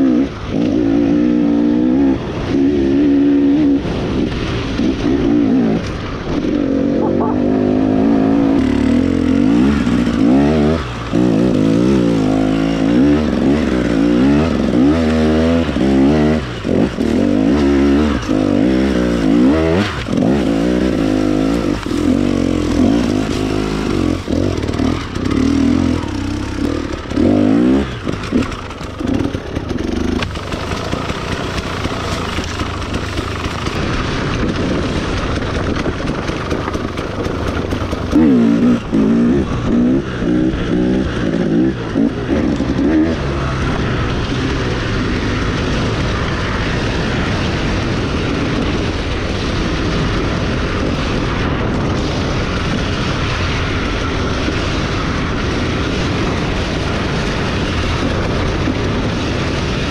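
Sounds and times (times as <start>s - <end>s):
dirt bike engine revving: 0.0s - 59.9s
steady rushing noise: 0.0s - 59.9s.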